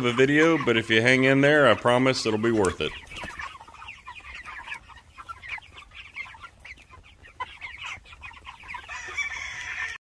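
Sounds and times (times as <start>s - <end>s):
young chickens clucking and peeping: 0.0s - 10.0s.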